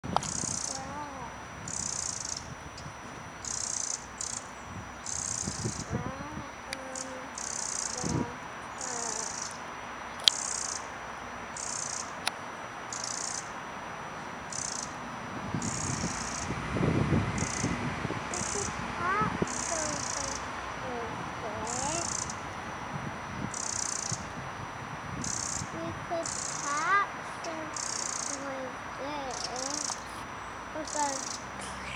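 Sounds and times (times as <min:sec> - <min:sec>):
wren alarm calls: 0:00.0 - 0:31.9.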